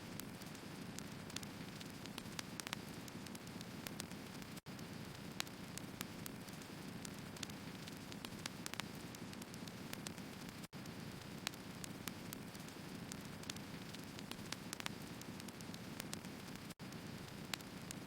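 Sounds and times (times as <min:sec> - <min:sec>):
firewood crackling and popping: 0:00.1 - 0:18.0.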